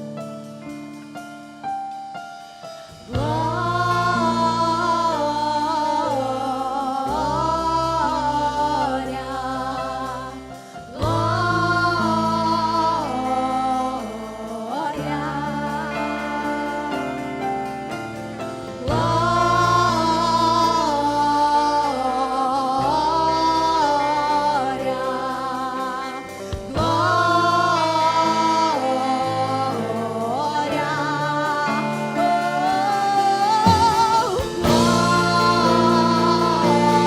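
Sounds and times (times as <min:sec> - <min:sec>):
band accompaniment: 0:00.0 - 0:22.5, 0:24.5 - 0:37.0
person singing with vibrato: 0:02.8 - 0:37.0.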